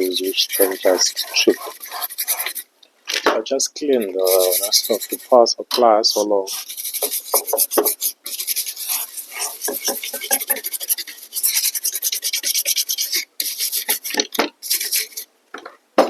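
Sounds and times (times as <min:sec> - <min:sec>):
brush scrubbing circuit board: 0:00.0 - 0:02.7, 0:03.7 - 0:15.3.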